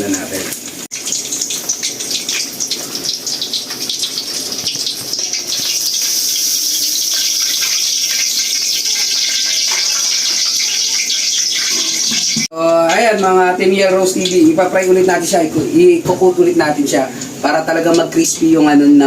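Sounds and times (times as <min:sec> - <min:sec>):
meat deep-frying in hot oil: 0:00.0 - 0:19.0.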